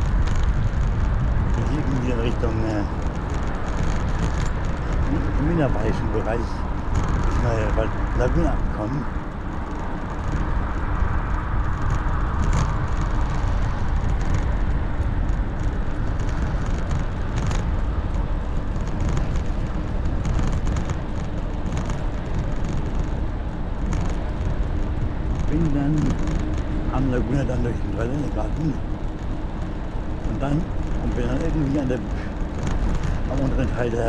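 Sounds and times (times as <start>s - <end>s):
bicycle tyre rumble: 0.0s - 34.0s
faint steady hum: 0.0s - 34.0s
wind on microphone: 0.0s - 34.0s.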